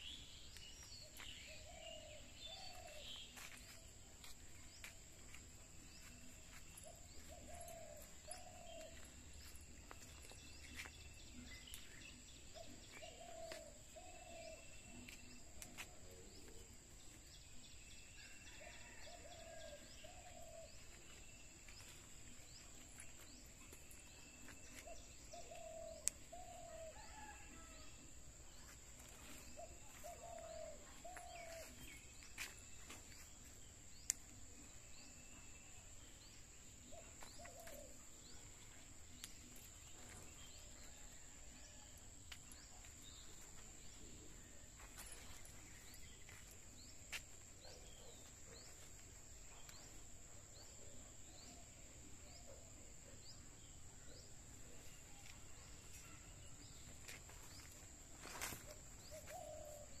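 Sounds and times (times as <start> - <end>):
bird chirps: 0.0 - 27.8, 29.0 - 60.0.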